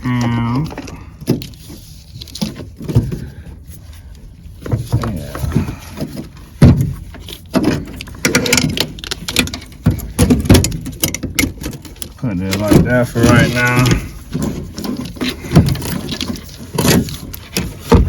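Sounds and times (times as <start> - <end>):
parts and wiring knocking and rattling: 0.0 - 3.8, 4.5 - 18.0.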